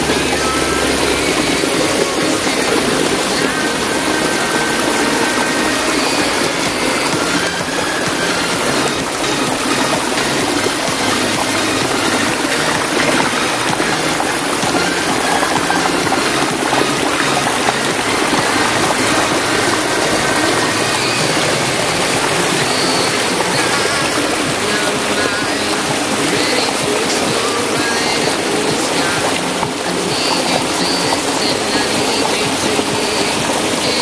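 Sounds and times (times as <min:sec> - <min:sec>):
fast-flowing stream water: 0:00.0 - 0:34.0.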